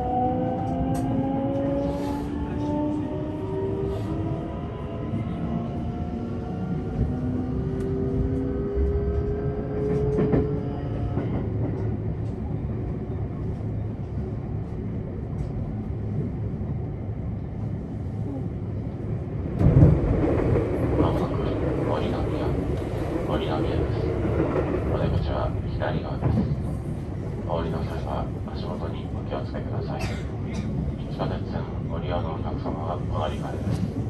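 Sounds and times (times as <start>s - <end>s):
train wheels rumbling on rails: 0.0s - 16.4s, 18.3s - 34.0s.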